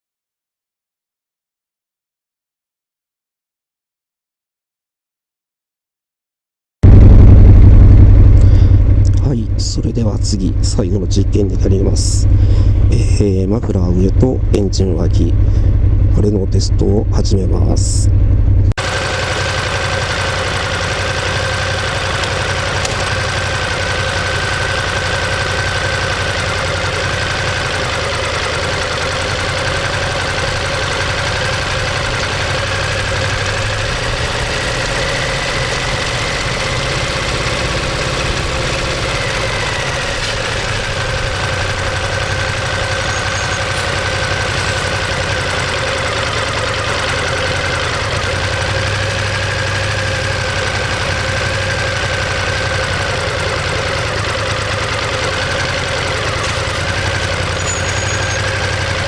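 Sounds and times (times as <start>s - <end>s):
motorcycle engine idling: 6.8s - 59.0s.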